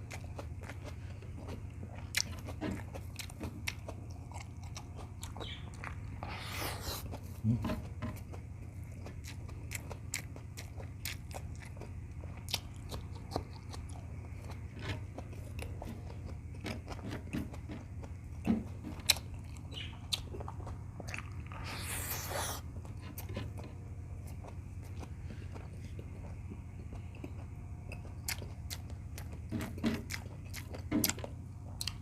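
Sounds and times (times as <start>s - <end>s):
person chewing: 0.0s - 32.0s
steady low hum: 0.0s - 32.0s.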